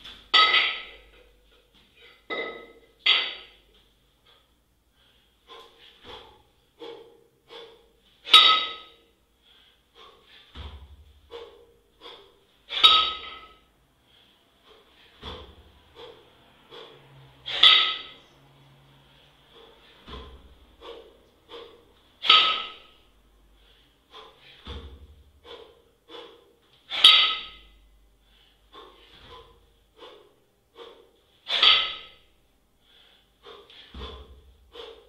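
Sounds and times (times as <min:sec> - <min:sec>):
heavy rhythmic breathing: 0:00.0 - 0:35.0.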